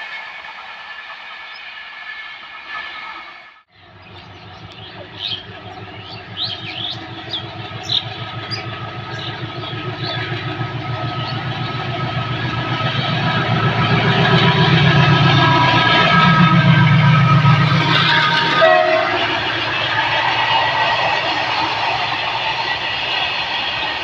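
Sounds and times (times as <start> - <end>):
locomotive diesel engines droning: 3.7 - 24.0.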